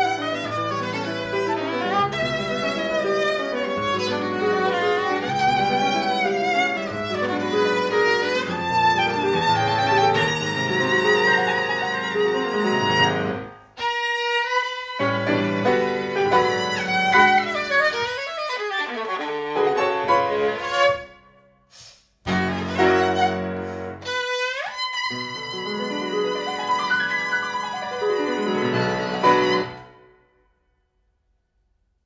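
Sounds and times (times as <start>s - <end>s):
piano playing: 0.0s - 14.0s, 14.9s - 21.4s, 22.3s - 30.3s
viola playing: 0.0s - 21.5s, 22.3s - 30.2s.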